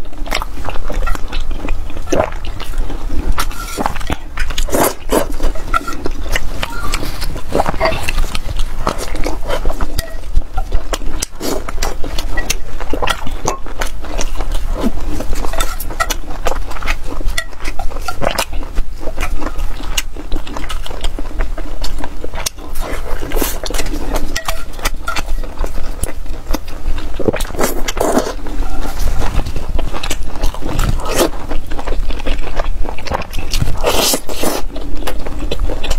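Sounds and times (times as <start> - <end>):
wet chewing and smacking: 0.0 - 35.9
noodle slurping: 1.0 - 21.3, 22.5 - 35.9.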